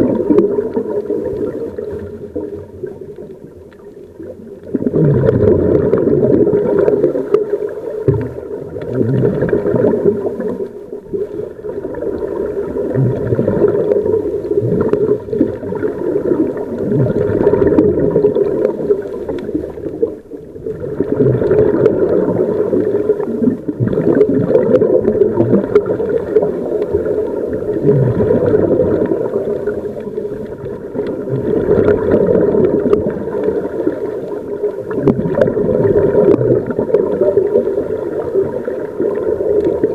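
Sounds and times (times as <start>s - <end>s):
scuba regulator bubbles gurgling: 0.0s - 39.9s.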